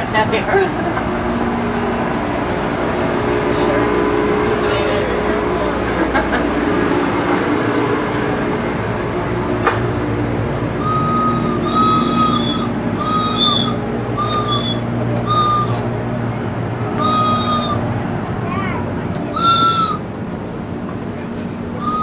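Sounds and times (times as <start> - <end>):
indistinct voices: 0.0 - 20.1
steady hum: 0.0 - 22.0.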